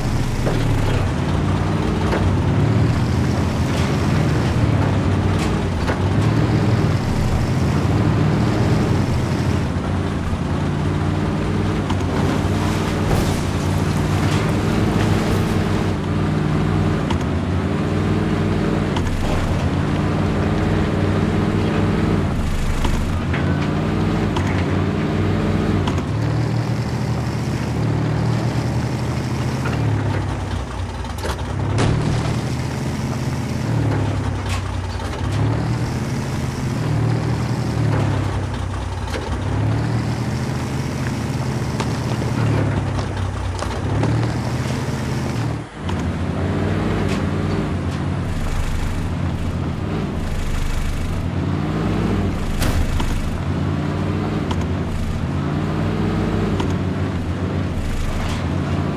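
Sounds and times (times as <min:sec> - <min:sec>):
truck engine revving: 0:00.0 - 0:58.9.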